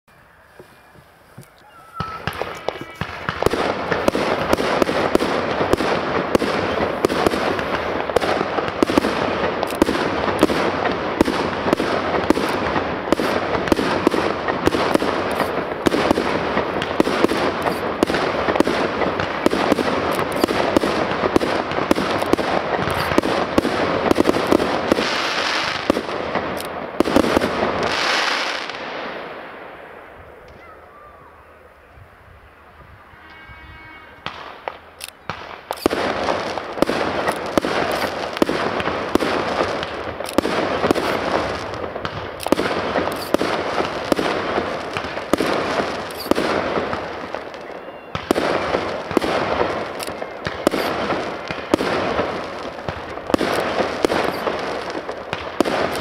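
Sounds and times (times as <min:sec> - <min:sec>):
fireworks bangs and crackling: 0:00.2 - 0:33.1, 0:34.2 - 0:56.0.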